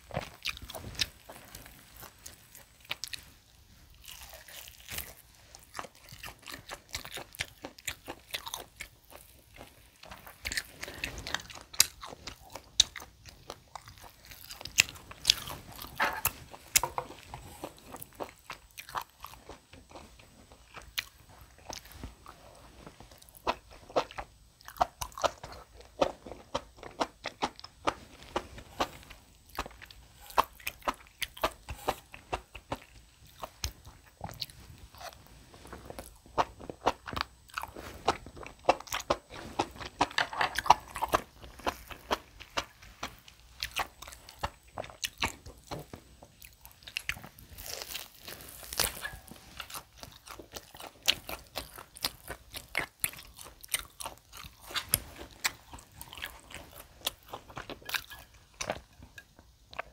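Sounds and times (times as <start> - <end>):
person biting and chewing food: 0.0 - 59.9.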